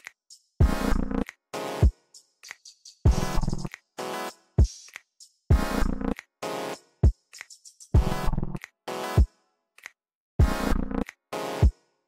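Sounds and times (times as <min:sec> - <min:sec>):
electronic music with drum-machine beat: 0:00.0 - 0:09.4, 0:10.4 - 0:11.9.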